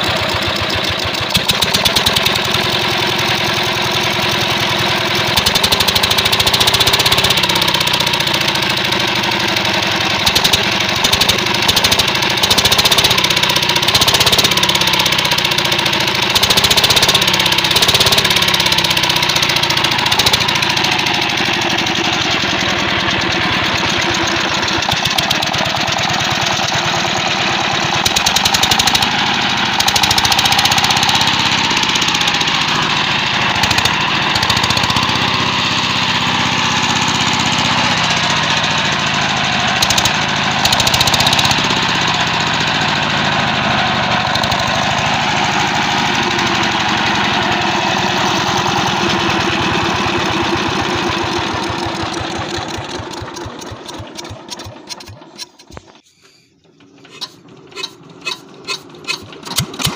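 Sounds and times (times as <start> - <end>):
diesel engine knocking: 0.0 - 55.9.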